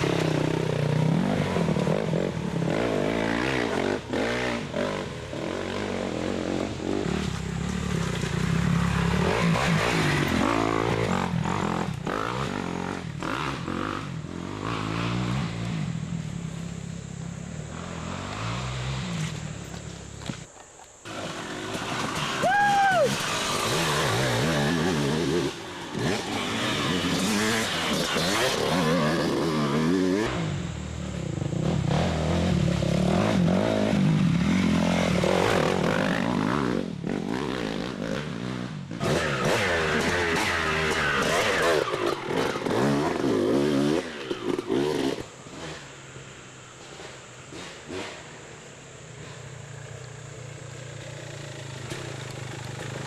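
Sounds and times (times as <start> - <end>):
dirt bike engine revving: 0.0 - 16.2, 17.1 - 19.7, 21.1 - 49.6.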